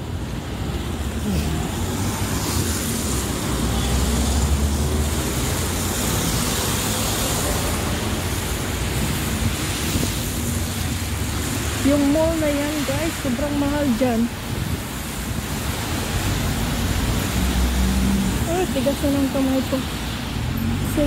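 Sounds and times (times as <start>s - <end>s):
bus rumbling past: 0.0s - 11.8s, 15.8s - 21.0s
tyres hissing on wet road: 0.0s - 21.0s.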